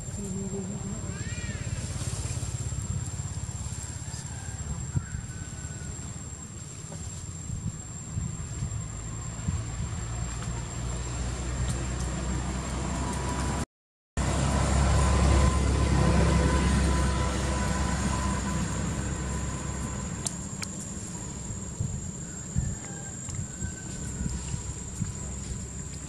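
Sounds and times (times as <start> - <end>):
low engine rumble: 0.0 - 13.6, 14.2 - 26.0.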